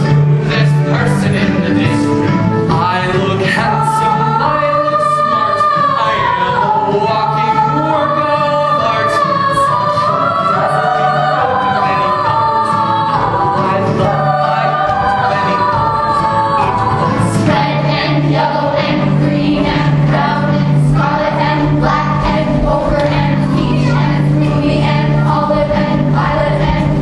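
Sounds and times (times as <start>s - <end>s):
cast and children's chorus singing: 0.0s - 27.0s
musical accompaniment with low notes: 0.0s - 27.0s.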